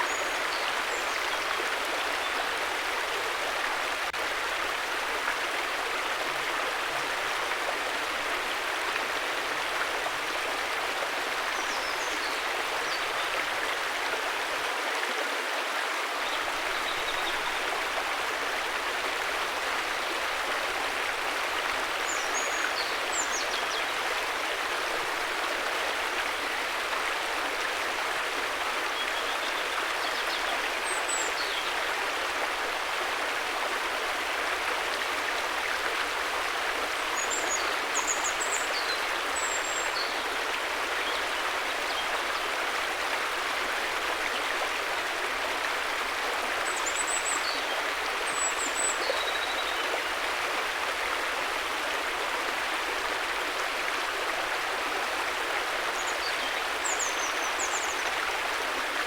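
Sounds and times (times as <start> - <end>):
river water rushing and babbling: 0.0 - 59.0.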